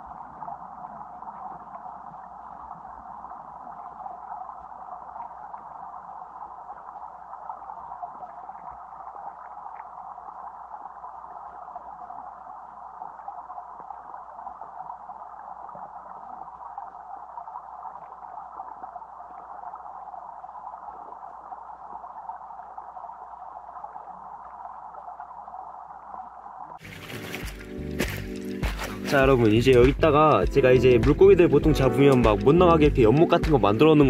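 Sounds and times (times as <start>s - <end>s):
muffled underwater stream hiss: 0.0s - 29.2s.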